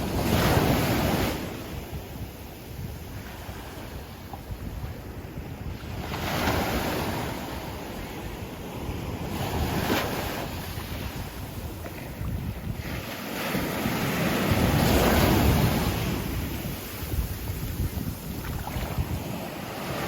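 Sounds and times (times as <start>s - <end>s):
sea waves breaking on a beach: 0.0s - 20.0s
wind buffeting the microphone: 0.0s - 20.0s.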